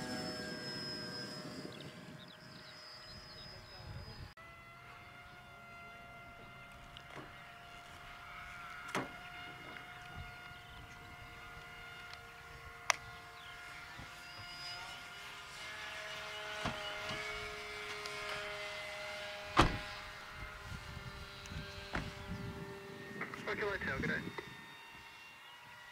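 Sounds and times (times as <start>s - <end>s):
model plane motor whining: 0.0s - 25.9s.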